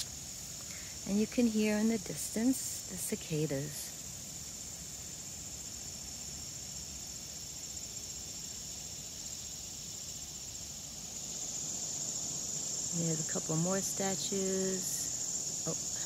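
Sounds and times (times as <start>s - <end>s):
distant cicadas buzzing: 0.0s - 16.0s.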